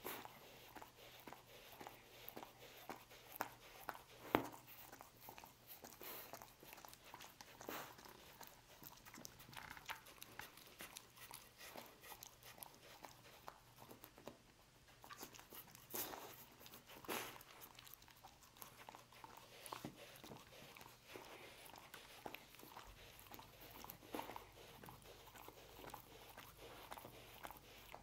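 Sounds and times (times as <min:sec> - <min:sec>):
dog licking wet smacks: 0:00.0 - 0:14.4, 0:15.0 - 0:28.0.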